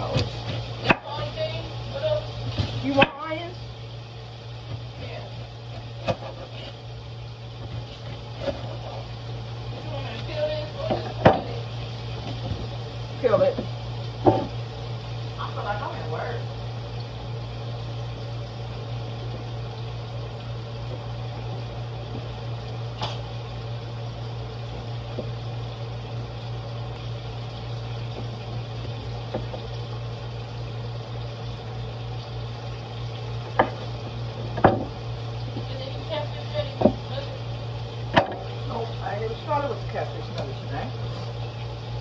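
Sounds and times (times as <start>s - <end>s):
food sizzling in hot oil: 0.0s - 42.0s.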